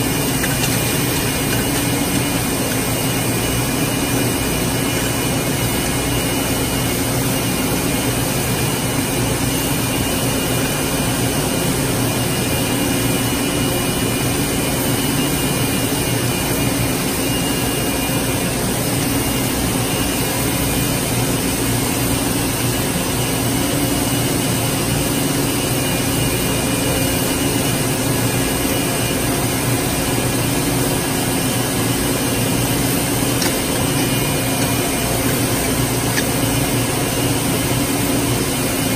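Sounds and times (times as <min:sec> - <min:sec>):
factory machinery hum: 0:00.0 - 0:38.9.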